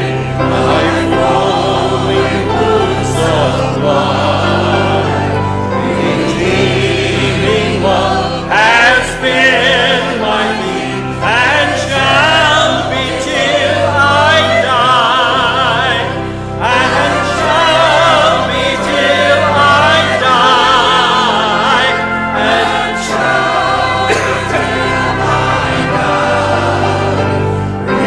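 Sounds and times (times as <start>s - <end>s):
congregation singing a hymn: 0.0s - 28.0s
instrumental accompaniment: 0.0s - 28.0s.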